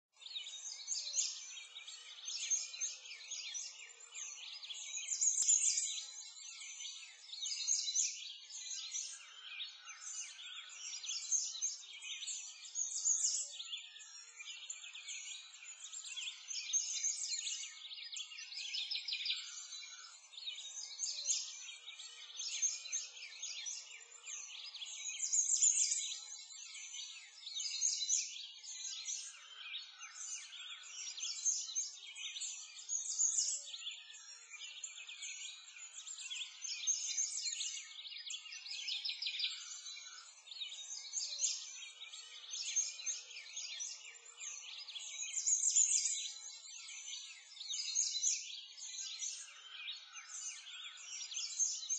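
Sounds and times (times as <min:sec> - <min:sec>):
small birds chirping and trilling: 0:00.0 - 0:51.9.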